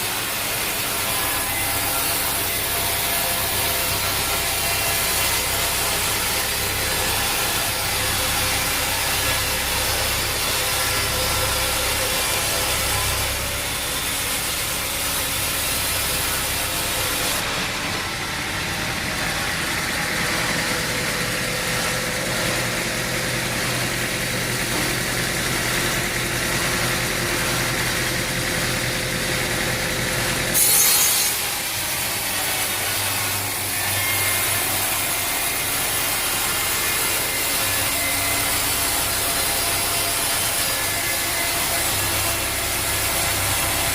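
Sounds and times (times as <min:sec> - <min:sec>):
sawmill saw cutting log: 0:00.0 - 0:43.9.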